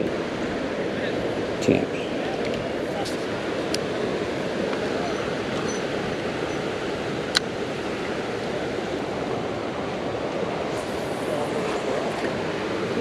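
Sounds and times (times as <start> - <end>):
river water flowing over rocks: 0.0 - 13.0.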